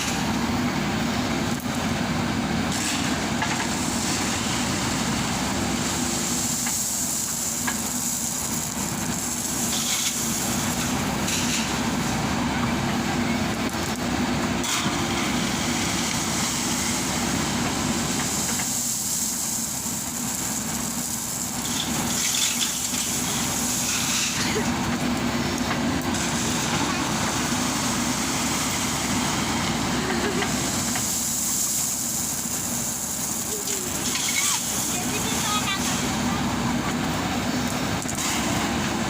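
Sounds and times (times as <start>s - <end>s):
diesel engine running: 0.0s - 39.0s
rushing hiss: 2.6s - 12.5s, 14.0s - 39.0s.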